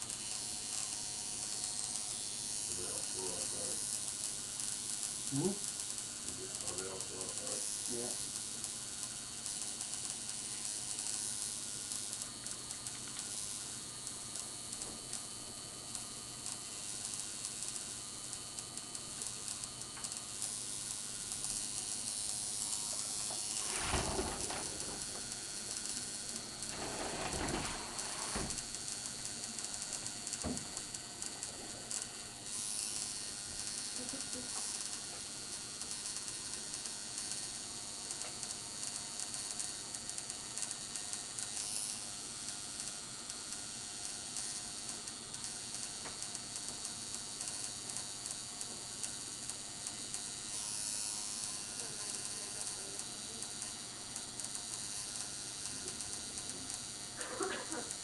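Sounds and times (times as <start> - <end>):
tattoo machine buzzing: 0.0 - 58.0.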